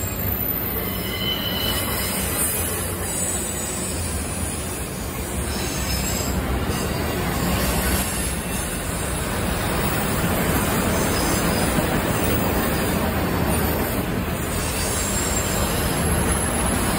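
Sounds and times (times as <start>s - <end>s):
high wheel squeal: 0.0s - 10.1s, 10.9s - 16.9s
steel wheels rumbling on rails: 0.0s - 16.9s.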